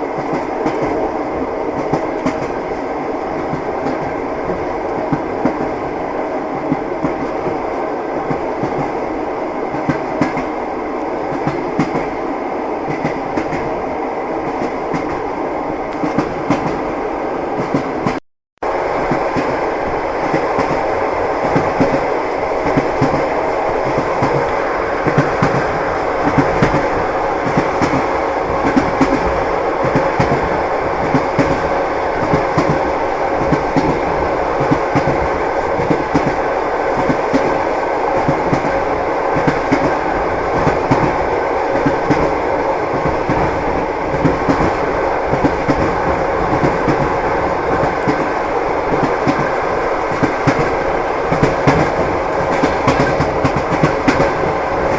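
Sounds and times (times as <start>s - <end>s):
train wheels clickety-clack: 0.0s - 12.2s, 12.8s - 13.8s, 14.4s - 16.9s, 17.6s - 18.2s, 18.9s - 54.9s
train running rumble: 0.0s - 54.9s.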